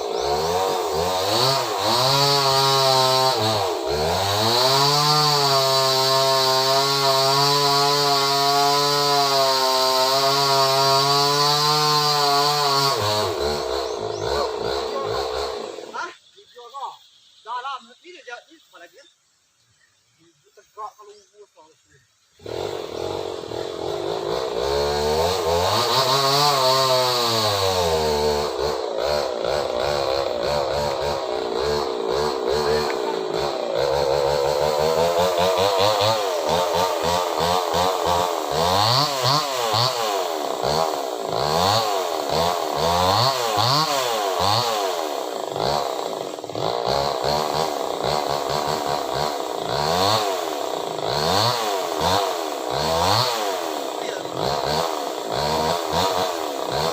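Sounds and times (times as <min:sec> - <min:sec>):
chainsaw cutting wood: 0:00.0 - 0:16.3, 0:22.3 - 0:56.9.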